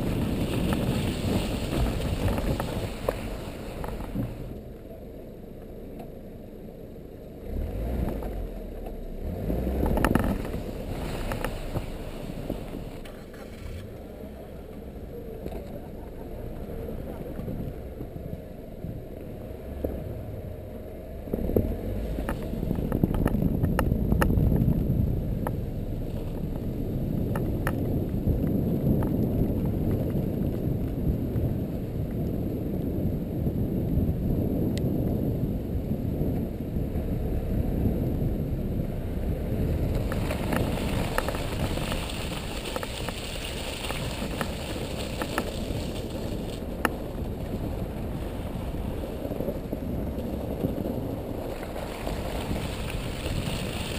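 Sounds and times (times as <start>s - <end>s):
engine and wind rumble: 0.0s - 53.9s.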